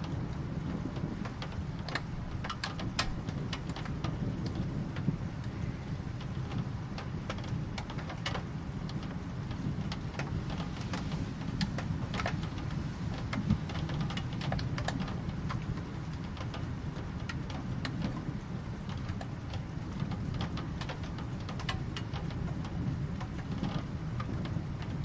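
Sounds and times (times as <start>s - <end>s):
raindrops ticking on hard surface: 0.0s - 25.0s.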